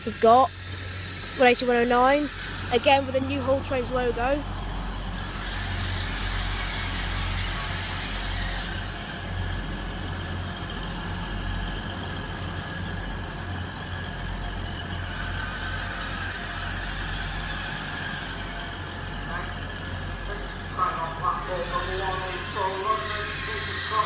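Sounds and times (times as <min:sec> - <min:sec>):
diesel train engine humming: 0:00.0 - 0:24.0.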